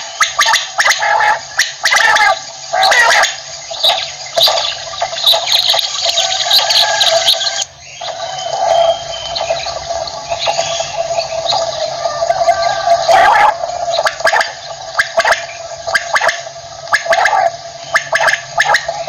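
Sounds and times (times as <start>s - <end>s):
quail calling: 0.0s - 19.0s.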